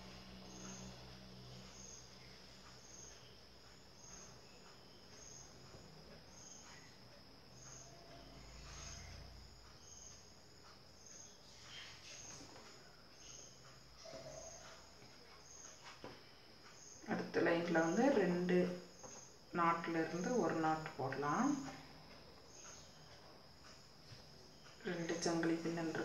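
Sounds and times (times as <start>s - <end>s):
insect chirping: 0.0s - 26.0s.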